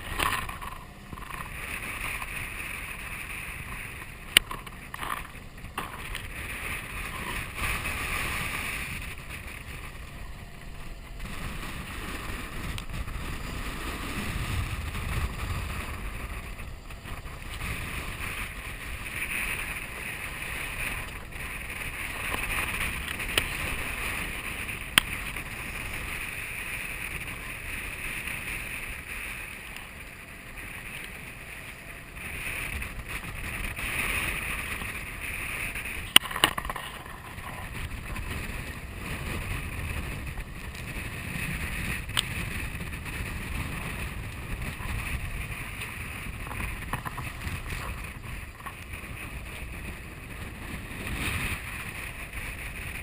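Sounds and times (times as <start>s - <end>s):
water rushing along a hull: 0.0s - 53.0s
wind gusting over microphone: 0.0s - 53.0s.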